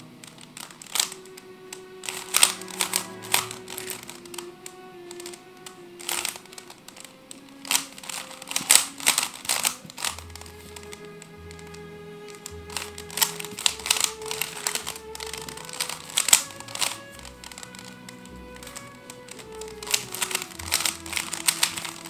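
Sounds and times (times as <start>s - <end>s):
puzzle cube clicking: 0.0s - 22.0s
soft background music: 0.0s - 22.0s.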